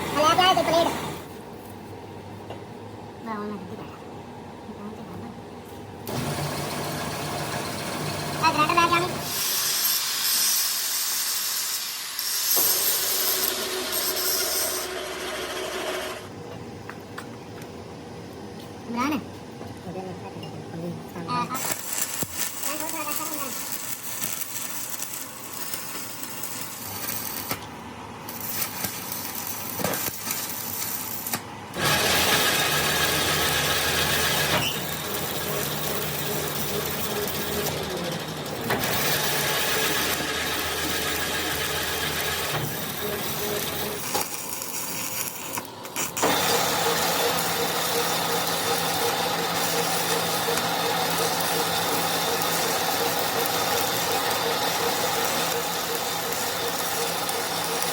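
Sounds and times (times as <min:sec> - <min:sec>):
machine running with hiss and hum: 0:05.6 - 0:17.6, 0:21.4 - 0:57.9.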